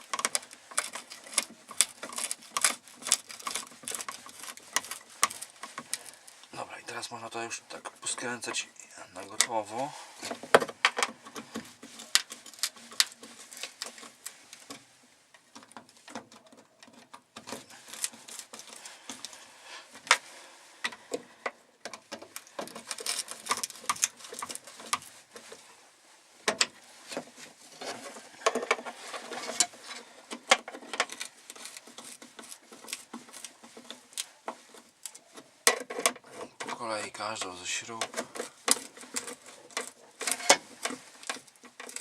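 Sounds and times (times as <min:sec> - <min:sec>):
hand tool tightening screws: 0:00.0 - 0:06.5, 0:09.2 - 0:14.9, 0:15.5 - 0:19.4, 0:20.8 - 0:25.6, 0:26.5 - 0:42.0.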